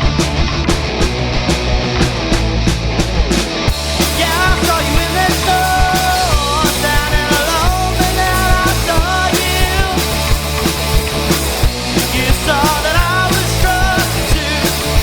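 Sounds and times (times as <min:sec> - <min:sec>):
drum beat: 0:00.0 - 0:15.0
rock band playing live: 0:00.0 - 0:15.0.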